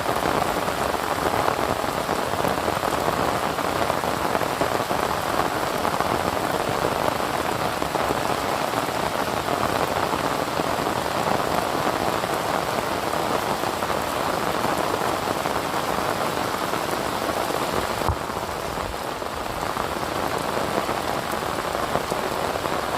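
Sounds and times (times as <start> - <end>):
dense rain falling: 0.0 - 22.9.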